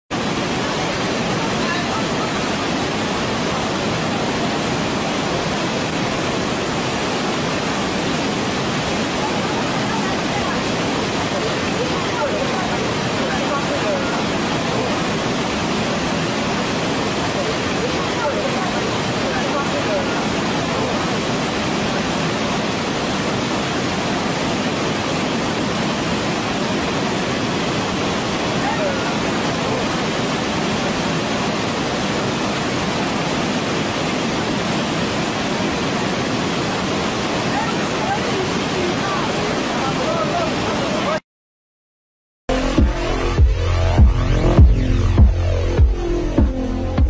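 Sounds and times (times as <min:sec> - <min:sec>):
waterfall rushing: 0:00.1 - 0:41.2, 0:42.5 - 0:47.0.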